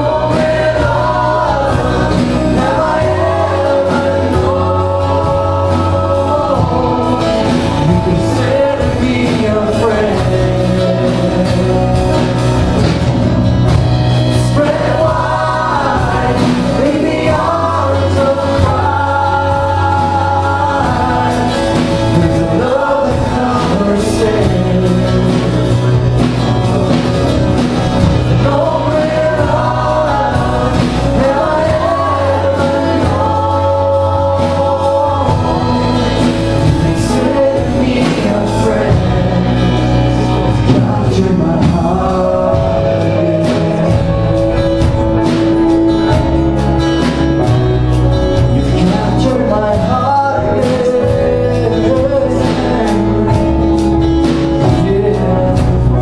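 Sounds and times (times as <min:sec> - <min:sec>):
man and woman singing: 0:00.0 - 0:13.1, 0:13.7 - 0:26.9, 0:27.6 - 0:46.4, 0:47.0 - 0:56.0
band playing: 0:00.0 - 0:56.0
strummed acoustic guitar: 0:00.0 - 0:56.0.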